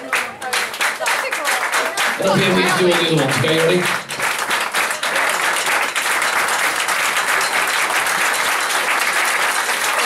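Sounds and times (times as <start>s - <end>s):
crowd clapping: 0.0s - 10.0s.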